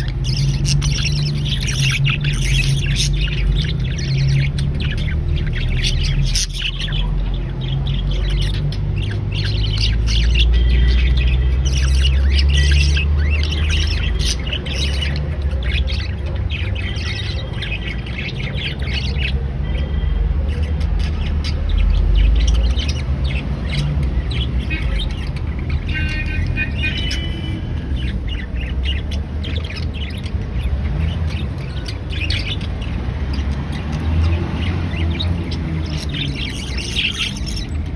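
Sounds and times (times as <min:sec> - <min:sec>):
baby budgerigars chirping: 0:00.0 - 0:37.9.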